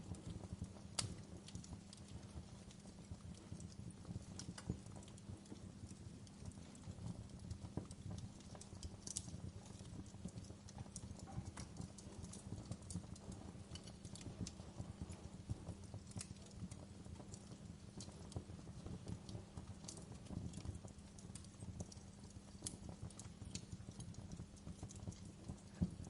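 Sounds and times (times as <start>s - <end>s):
fire pops and snaps: 0.0s - 26.0s
low rumble of burning logs: 0.0s - 26.0s.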